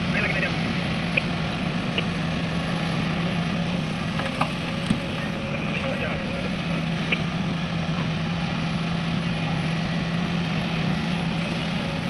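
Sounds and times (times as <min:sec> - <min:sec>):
diesel engine of heavy machine: 0:00.0 - 0:12.0.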